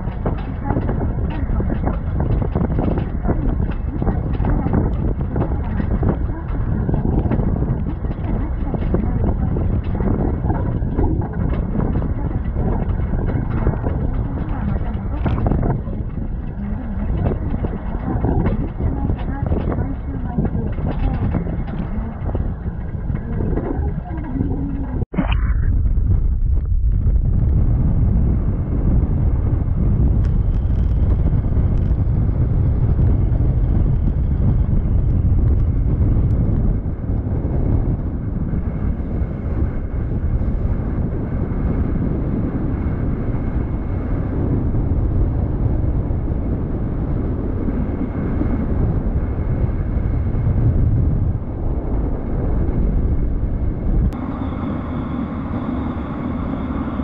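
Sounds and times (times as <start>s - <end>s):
bus engine and road rumble: 0.0s - 57.0s
wind rushing over microphone: 0.0s - 57.0s.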